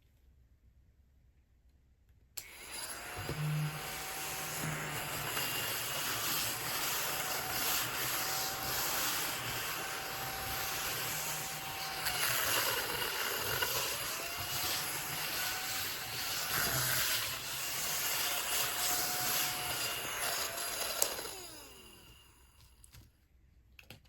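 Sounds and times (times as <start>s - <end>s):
mini vacuum cleaner motor whine: 2.4s - 22.8s.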